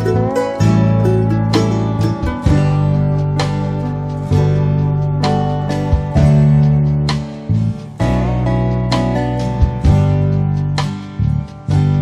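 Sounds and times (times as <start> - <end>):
strummed acoustic guitar chords: 0.0 - 12.0.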